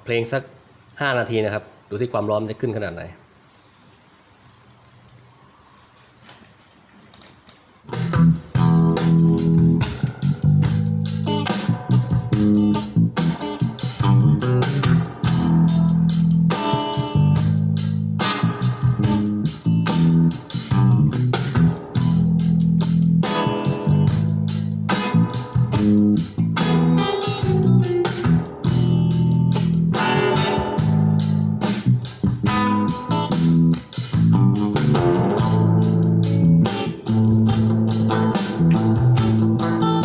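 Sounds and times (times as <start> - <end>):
guitar-led song through speaker: 7.9 - 40.0.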